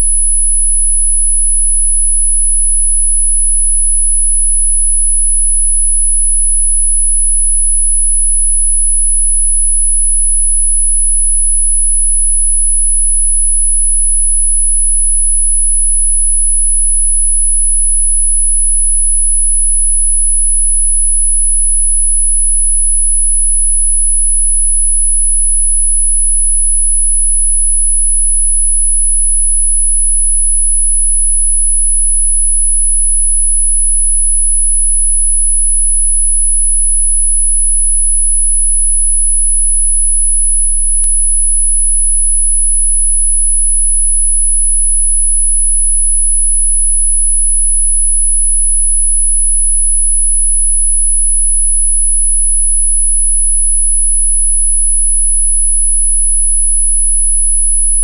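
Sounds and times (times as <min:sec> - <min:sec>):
high-pitched sine tone: 0:00.0 - 0:58.0.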